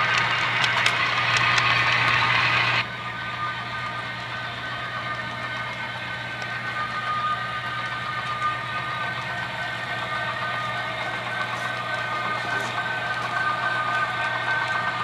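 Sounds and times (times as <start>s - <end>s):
diesel engine drone with whine: 0.0s - 15.0s
model train rolling on track: 0.0s - 15.0s.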